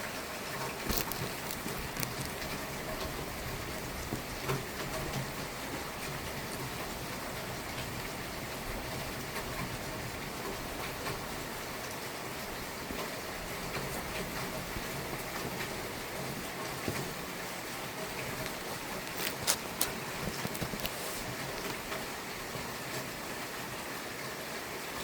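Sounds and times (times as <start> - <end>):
raindrops ticking close by: 0.0 - 25.0
steady rain: 0.0 - 25.0.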